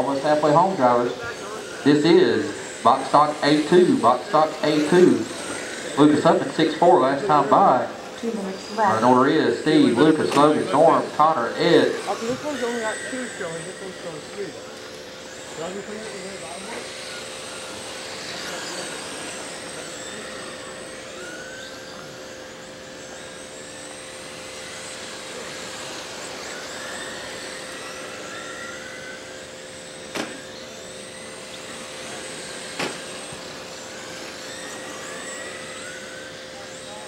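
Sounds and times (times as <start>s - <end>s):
rc car motors whining: 0.0s - 37.0s
steady hum: 0.0s - 37.0s.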